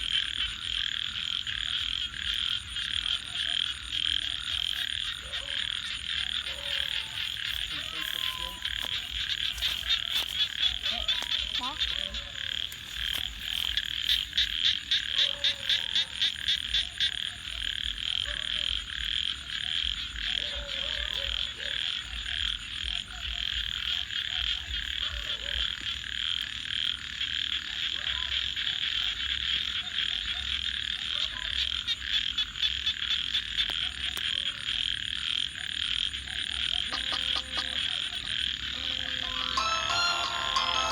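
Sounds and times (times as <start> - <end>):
chorus of frogs calling: 0.0 - 40.9
fast pulsed frog croaking: 0.0 - 40.9.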